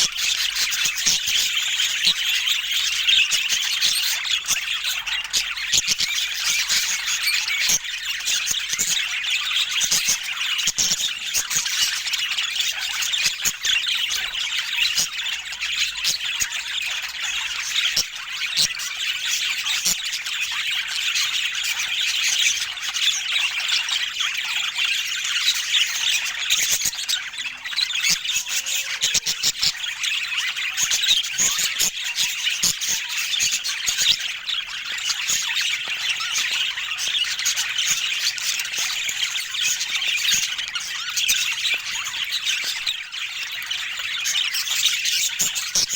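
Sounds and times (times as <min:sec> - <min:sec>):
budgerigars chattering: 0:00.0 - 0:45.9.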